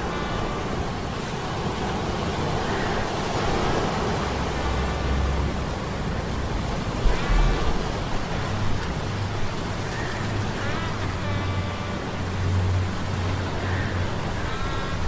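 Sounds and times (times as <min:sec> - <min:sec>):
rain: 0:00.0 - 0:15.0.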